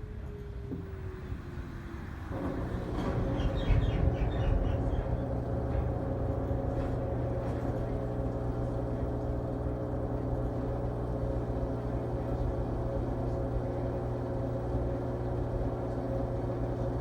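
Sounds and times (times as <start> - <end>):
washing machine humming: 0.8 - 17.0.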